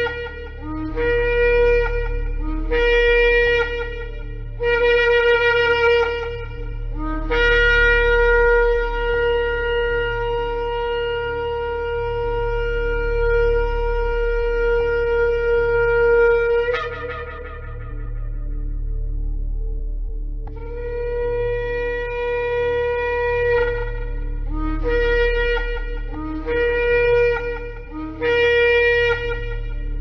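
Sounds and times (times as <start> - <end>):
shofar blasts: 0.0 - 19.4, 20.5 - 30.0.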